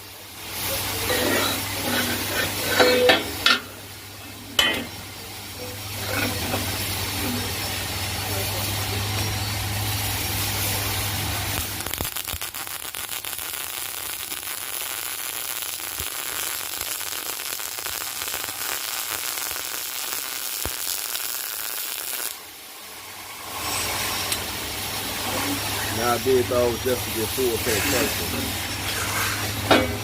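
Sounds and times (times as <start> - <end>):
welding arc crackling: 0.0 - 30.0.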